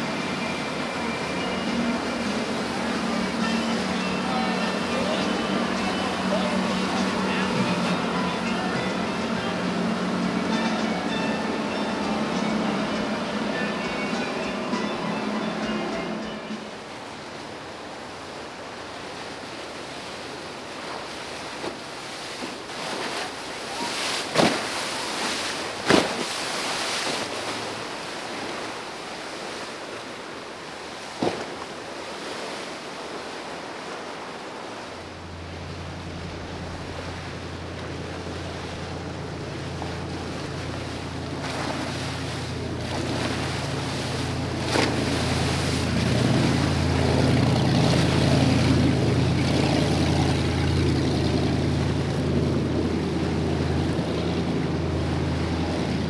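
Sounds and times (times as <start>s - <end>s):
boat engine drone: 0.0s - 56.0s
choppy water churning: 0.0s - 56.0s.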